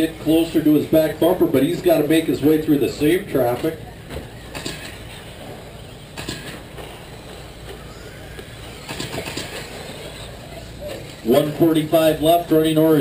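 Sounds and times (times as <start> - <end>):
rc truck motors and tyres: 1.2 - 13.0.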